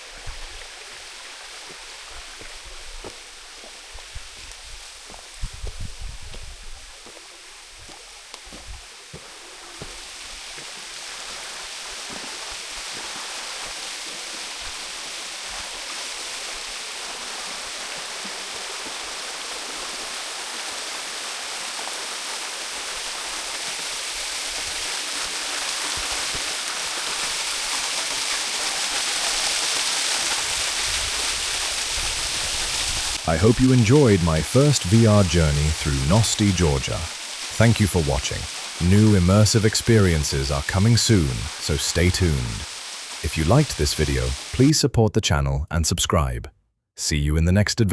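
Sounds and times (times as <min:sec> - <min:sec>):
rushing water: 0:00.0 - 0:44.9.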